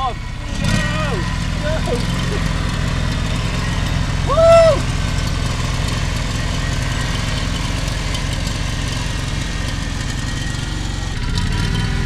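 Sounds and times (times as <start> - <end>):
ride-on mower engine running: 0.0 - 12.0.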